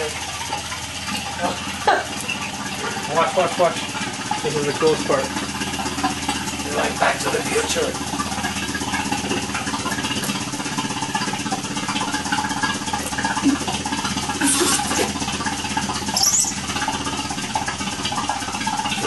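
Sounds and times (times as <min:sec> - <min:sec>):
vacuum pump humming: 0:00.0 - 0:19.0.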